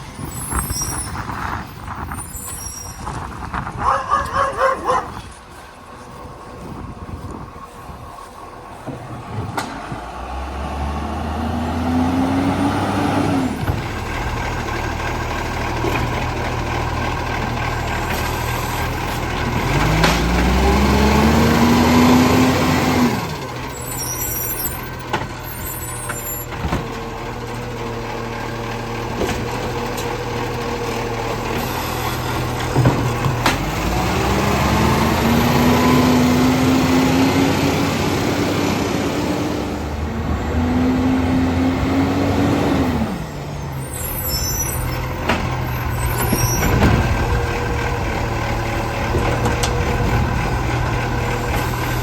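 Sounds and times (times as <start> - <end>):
truck diesel engine revving: 0.0 - 52.0.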